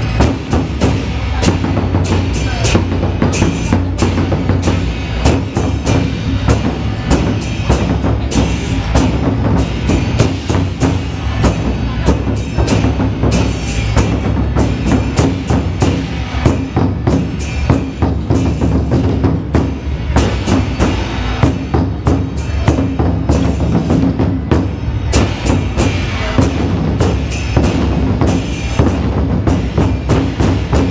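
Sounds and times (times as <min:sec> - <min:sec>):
large barrel drums beaten: 0:00.0 - 0:30.9.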